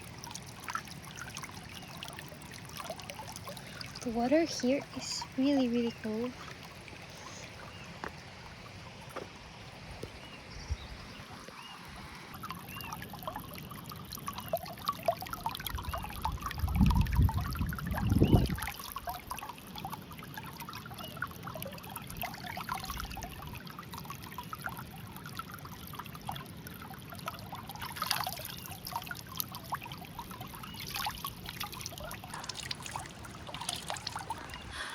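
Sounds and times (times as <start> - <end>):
stream trickling over rocks: 0.0 - 34.9.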